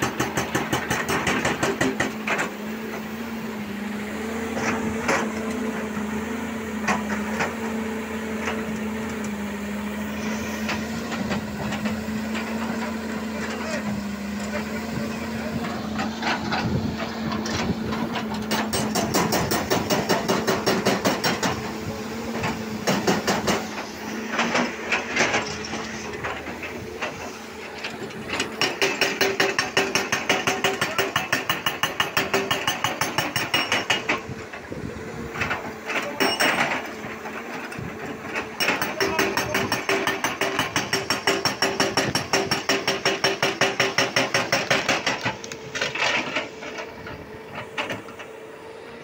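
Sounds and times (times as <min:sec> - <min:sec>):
hydraulic breaker hammering rock: 0:00.0 - 0:03.2, 0:10.0 - 0:48.4
excavator engine humming: 0:00.0 - 0:49.0.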